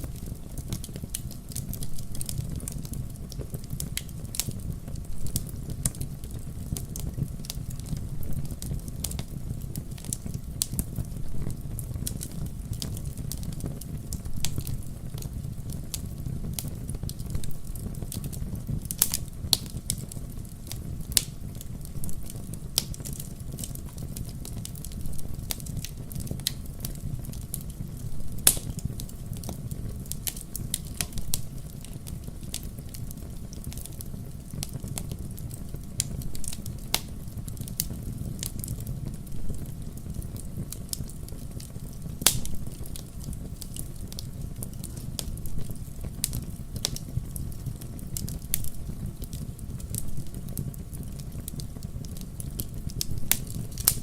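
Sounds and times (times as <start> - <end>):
fire crackling in fireplace: 0.0 - 54.0
low rumble of flames: 0.0 - 54.0
sharp pops of fire: 0.0 - 54.0.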